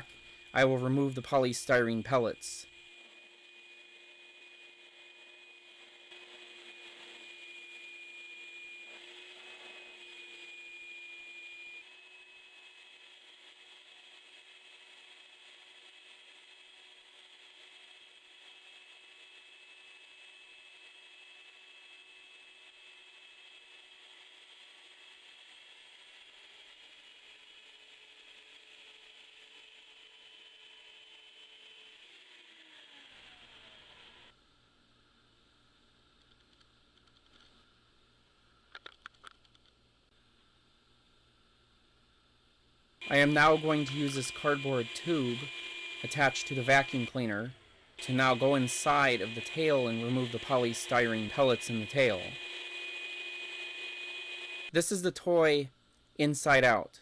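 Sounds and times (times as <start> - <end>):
shop vac whining: 0.0 - 34.4, 43.0 - 56.8.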